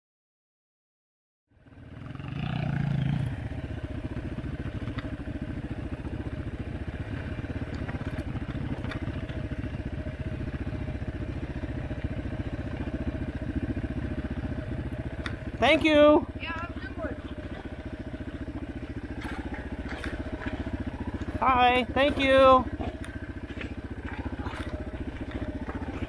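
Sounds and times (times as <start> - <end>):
dirt bike engines running: 1.6 - 26.0.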